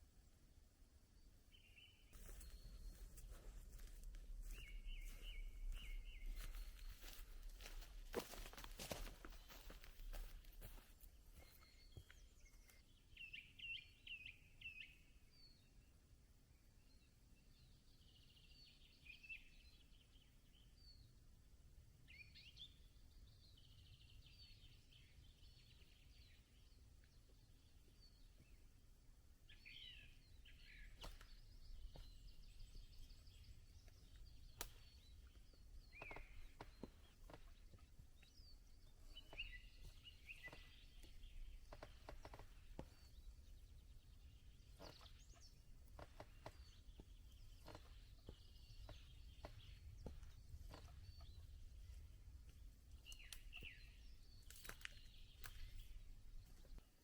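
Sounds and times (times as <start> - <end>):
small birds chirping: 1.2 - 21.3, 22.0 - 57.0.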